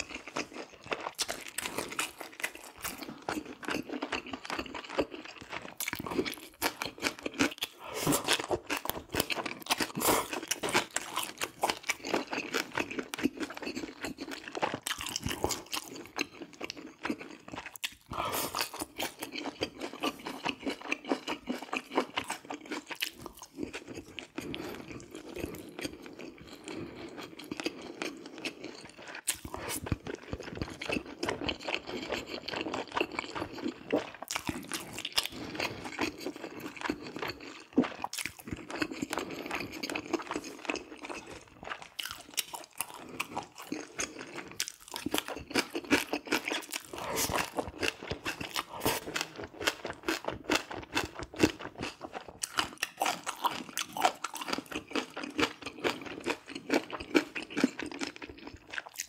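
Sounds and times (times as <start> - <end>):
chewing and mouth sounds: 0.0 - 59.0.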